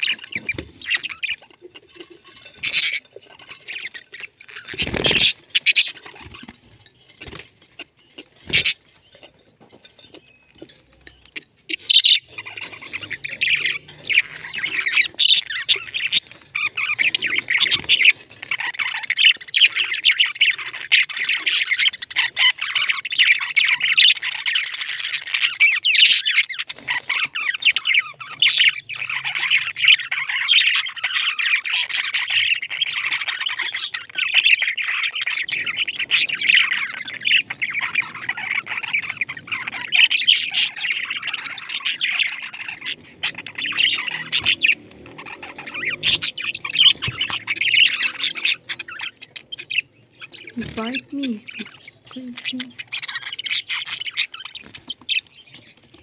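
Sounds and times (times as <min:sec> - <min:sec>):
budgerigars chattering: 0:00.0 - 0:56.0.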